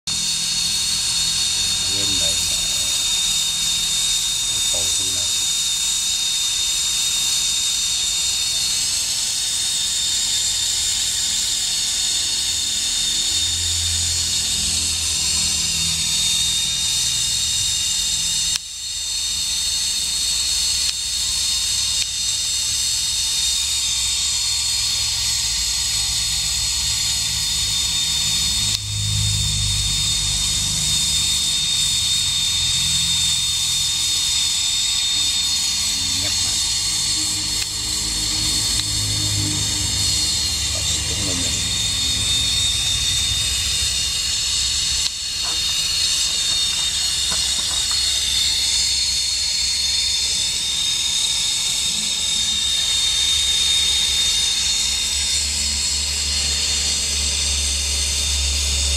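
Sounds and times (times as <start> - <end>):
gas torch flame hissing: 0.1 - 56.8.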